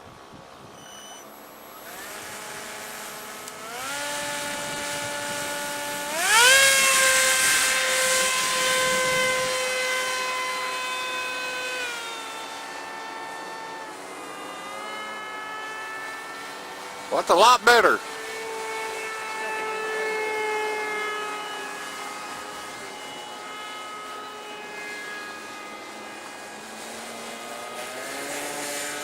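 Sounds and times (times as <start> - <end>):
electric motor and propeller whining: 0.0 - 29.0.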